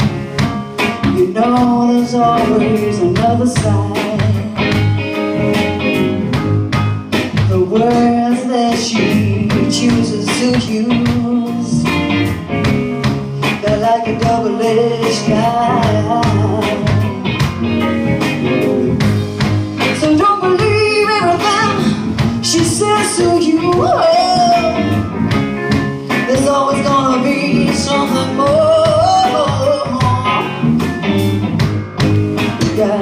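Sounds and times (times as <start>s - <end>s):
drum kit steady beat: 0.0s - 33.0s
electric bass: 0.0s - 33.0s
electric guitar: 0.0s - 33.0s
keyboards: 0.0s - 33.0s
woman singing lead: 0.3s - 12.5s, 13.4s - 18.4s, 19.8s - 30.7s, 32.4s - 33.0s.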